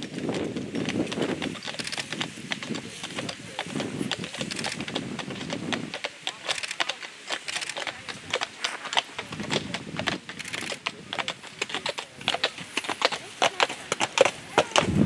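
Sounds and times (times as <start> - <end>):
horse hooves clip-clopping on pavement: 0.0 - 15.0.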